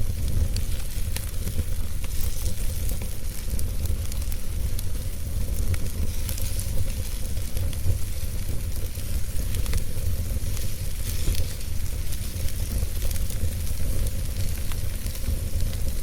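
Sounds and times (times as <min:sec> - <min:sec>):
wood fire crackling and hissing: 0:00.0 - 0:16.0.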